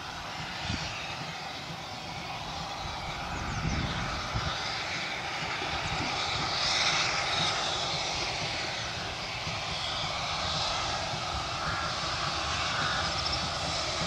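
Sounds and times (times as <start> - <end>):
steam locomotive exhaust rushing: 0.0 - 14.0.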